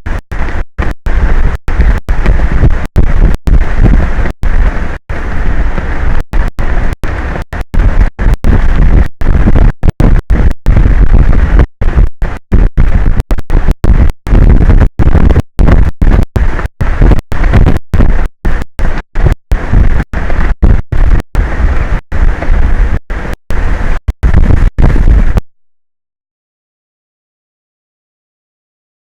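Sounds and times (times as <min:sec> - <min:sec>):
strong wind on microphone: 0:00.0 - 0:25.5.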